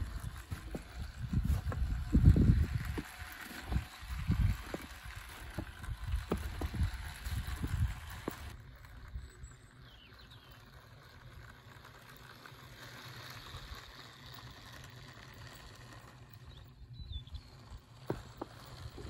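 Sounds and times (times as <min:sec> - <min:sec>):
model rail truck running: 0:00.0 - 0:19.0
wheels clicking on rails: 0:00.0 - 0:19.0.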